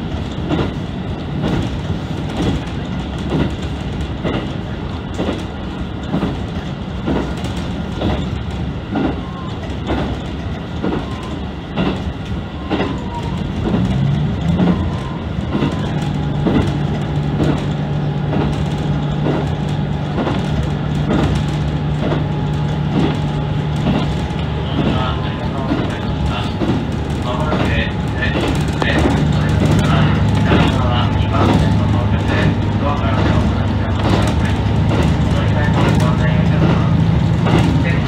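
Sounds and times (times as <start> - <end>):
train rumbling: 0.0 - 38.0
wheels clacking over rail joints: 0.0 - 38.0.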